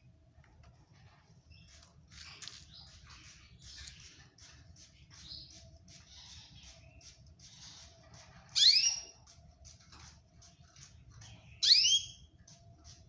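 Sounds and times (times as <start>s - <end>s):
faint bird chirping: 0.7s - 13.0s.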